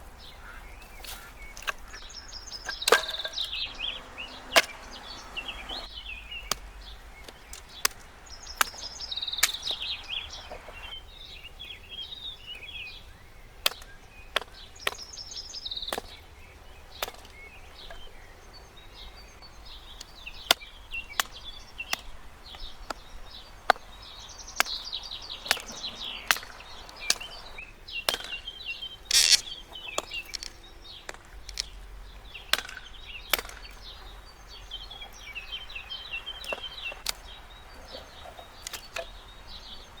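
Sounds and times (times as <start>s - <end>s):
birds chirping: 0.0s - 40.0s
sharp knocks and snaps: 1.0s - 10.9s, 13.6s - 18.1s, 19.9s - 40.0s.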